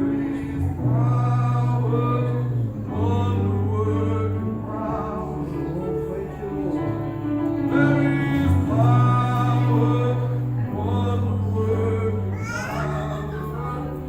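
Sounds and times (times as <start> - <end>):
gospel singing: 0.0 - 14.0.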